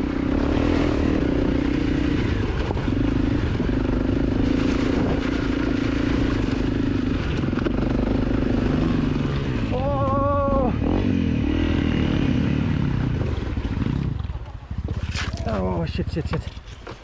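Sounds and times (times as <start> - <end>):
dirt bike engine running: 0.0 - 16.8.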